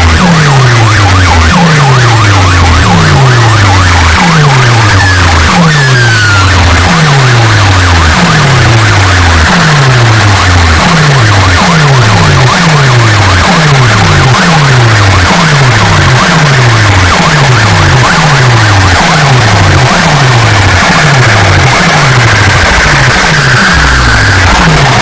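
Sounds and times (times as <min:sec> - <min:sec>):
distorted electronic music with bass sweeps: 0:00.0 - 0:25.0
siren-like falling high tone: 0:00.0 - 0:25.0.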